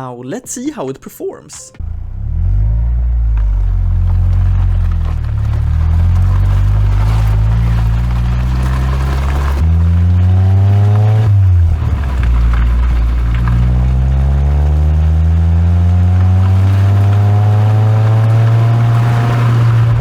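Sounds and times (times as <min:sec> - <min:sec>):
car exhaust engine running: 0:01.8 - 0:20.0.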